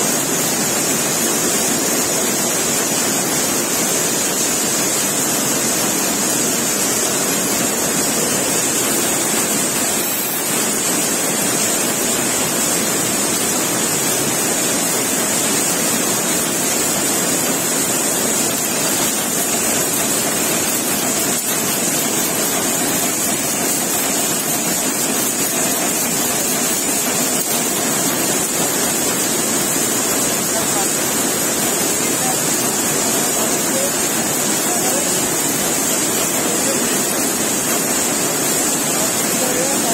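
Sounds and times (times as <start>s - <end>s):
weaving looms running: 0.0s - 39.9s.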